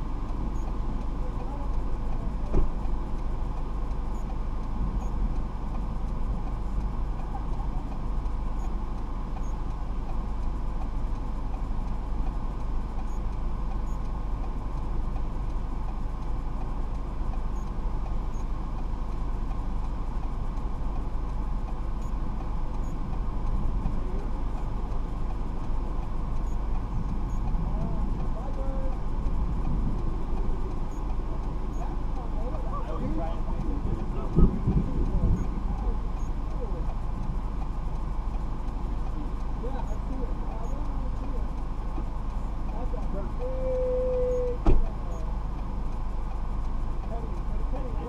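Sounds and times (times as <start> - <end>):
car road noise rumble: 0.0 - 48.0.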